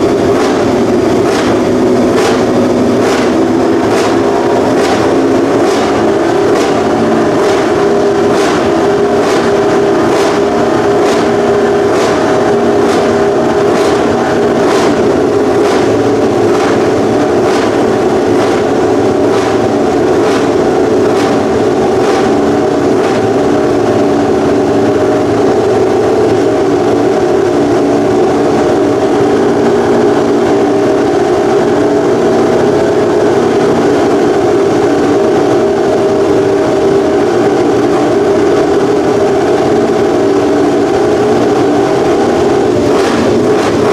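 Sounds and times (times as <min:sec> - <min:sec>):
motorcycle engine idling loudly: 0:00.0 - 0:43.9.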